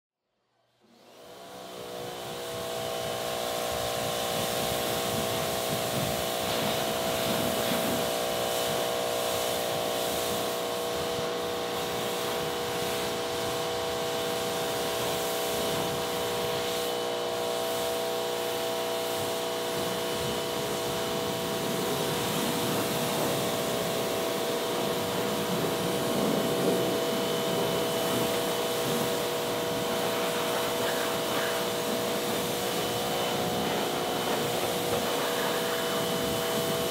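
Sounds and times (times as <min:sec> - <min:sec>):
pressure washer motor hum: 0:00.8 - 0:36.9
water jet hissing on car: 0:00.9 - 0:36.9.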